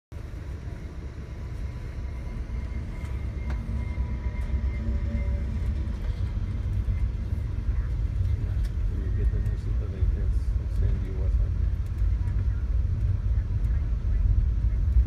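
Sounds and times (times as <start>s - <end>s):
train rumbling past: 0.1s - 15.0s.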